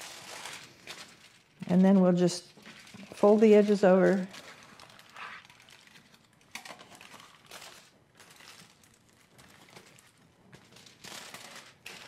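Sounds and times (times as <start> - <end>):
aluminum foil crinkling: 0.0 - 12.0.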